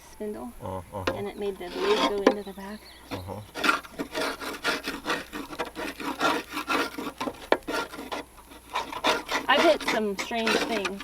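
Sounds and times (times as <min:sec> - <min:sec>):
scraping mower deck: 0:00.9 - 0:11.0.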